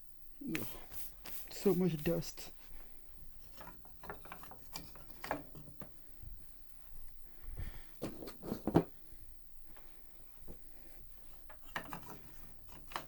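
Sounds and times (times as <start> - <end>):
hands handling piano parts: 0.5 - 13.0.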